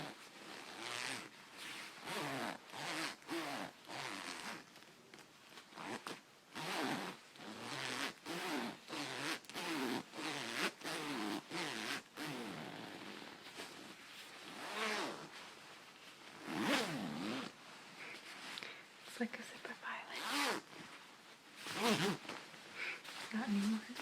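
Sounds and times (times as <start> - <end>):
coat zipper zipping: 0.0 - 4.7, 5.7 - 18.6, 20.2 - 24.0.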